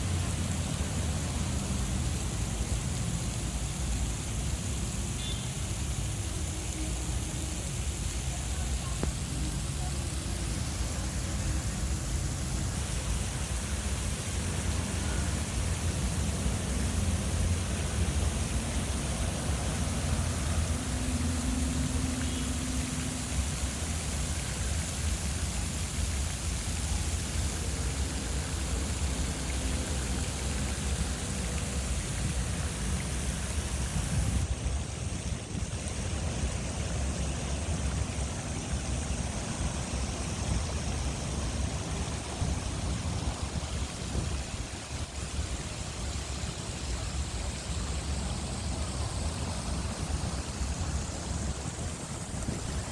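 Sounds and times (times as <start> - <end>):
fountain water splashing: 0.0 - 52.9.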